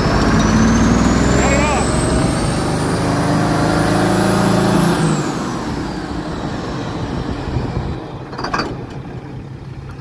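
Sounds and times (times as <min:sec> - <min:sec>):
tractor diesel engine racing: 0:00.0 - 0:10.0.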